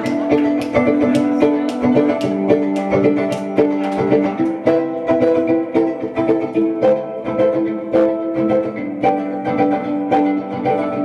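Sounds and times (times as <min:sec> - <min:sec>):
violin plucked pizzicato: 0:00.0 - 0:11.0.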